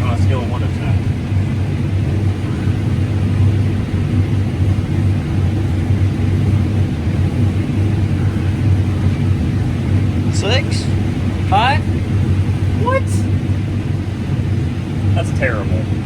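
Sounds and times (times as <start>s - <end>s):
combine harvester engine hum: 0.0s - 16.0s.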